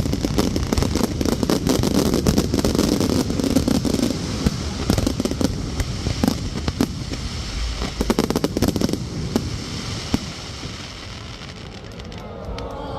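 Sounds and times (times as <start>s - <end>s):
firework bang: 0.0s - 11.9s
fireworks popping and crackling: 0.0s - 12.7s.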